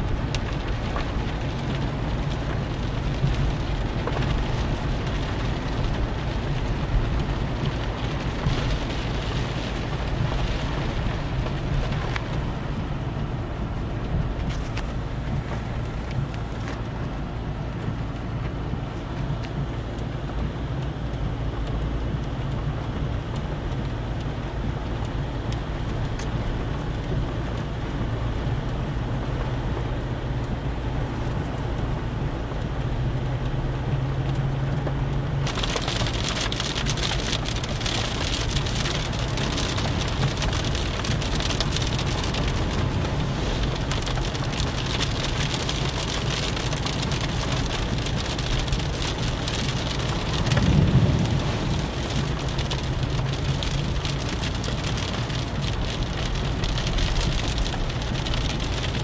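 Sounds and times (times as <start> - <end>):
car engine and road hum: 0.0 - 59.0
rain pattering on car roof: 0.0 - 59.0.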